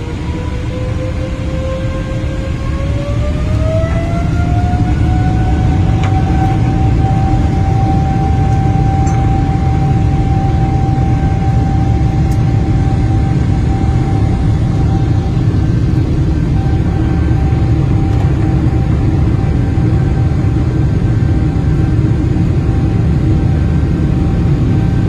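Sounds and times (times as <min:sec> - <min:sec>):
jet engine rumble and whine: 0:00.0 - 0:25.0.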